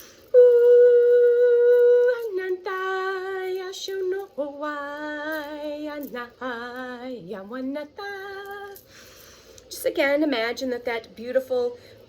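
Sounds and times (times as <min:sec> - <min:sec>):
woman singing wordless held tones: 0:00.0 - 0:09.0, 0:09.7 - 0:11.9.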